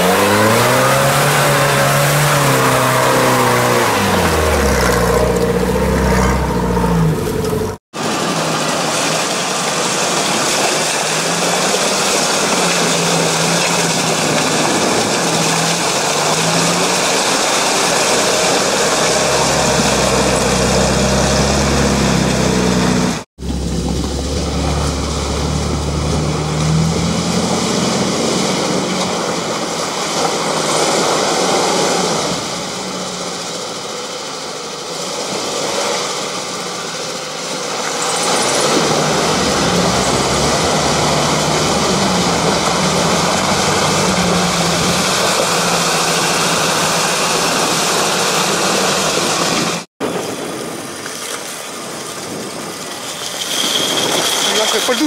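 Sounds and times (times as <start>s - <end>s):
off-road engines revving: 0.0s - 49.9s, 53.0s - 55.0s.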